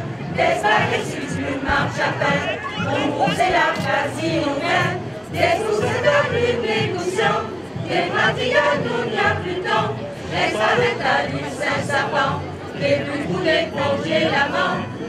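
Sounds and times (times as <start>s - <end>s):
crowd cheering and chanting: 0.0s - 15.0s
music: 0.0s - 15.0s.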